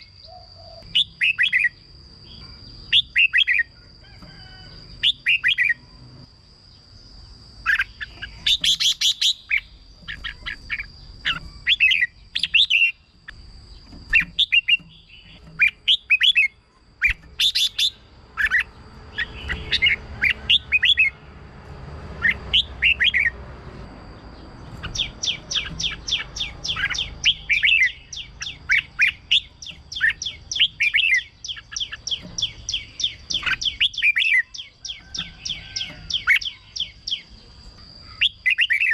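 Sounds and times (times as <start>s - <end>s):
bird singing whistled notes: 0.0s - 6.2s, 7.6s - 21.2s, 22.2s - 38.9s.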